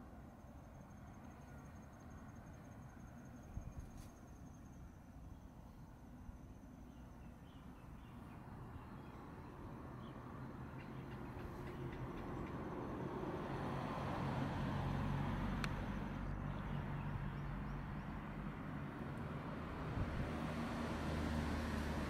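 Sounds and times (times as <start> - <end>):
vehicle engine hum: 0.0 - 22.0.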